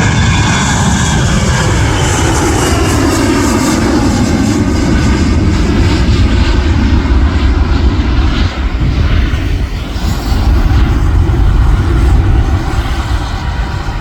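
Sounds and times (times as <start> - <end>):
jet engine hiss: 0.0 - 14.0
jet engines rumbling: 0.0 - 14.0.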